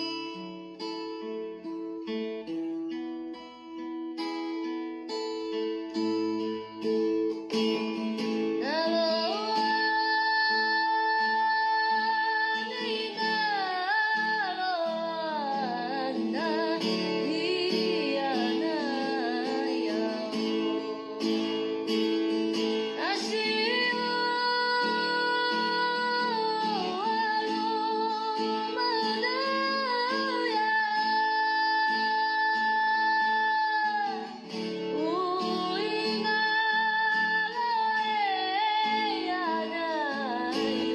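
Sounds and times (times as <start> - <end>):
acoustic guitar accompaniment: 0.0 - 40.9
woman singing: 4.2 - 40.9.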